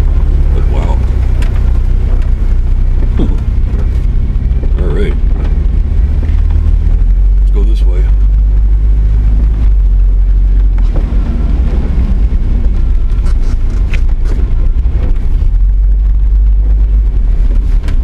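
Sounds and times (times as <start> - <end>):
truck engine and tyres rumbling: 0.0 - 18.0.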